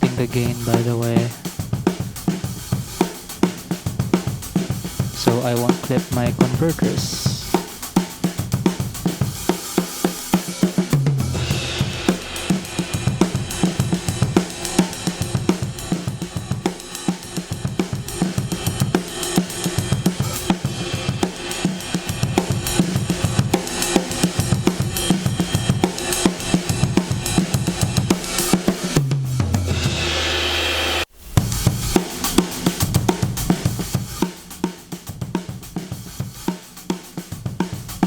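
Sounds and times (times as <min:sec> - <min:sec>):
drum kit groove: 0:00.0 - 0:38.0.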